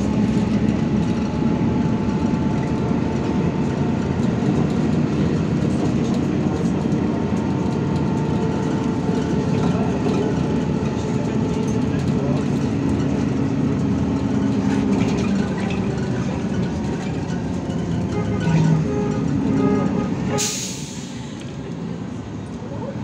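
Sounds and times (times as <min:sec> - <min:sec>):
bus engine drone: 0:00.0 - 0:23.0
road rumble: 0:00.0 - 0:23.0.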